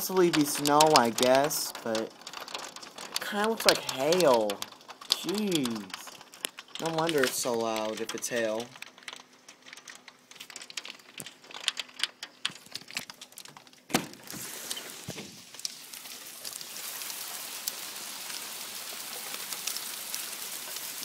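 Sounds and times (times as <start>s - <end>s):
hailstones ticking: 0.0s - 21.0s
rain hissing: 0.0s - 21.0s.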